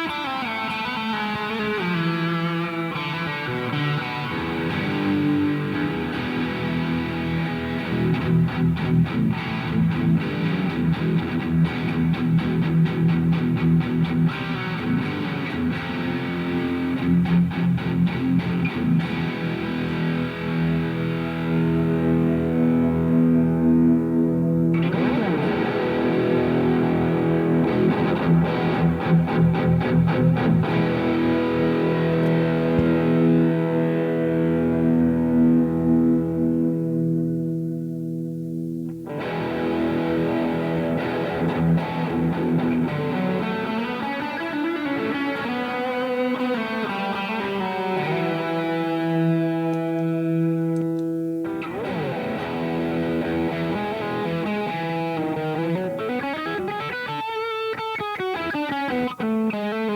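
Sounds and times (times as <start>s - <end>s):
distorted electric guitar chords: 0.0s - 59.9s.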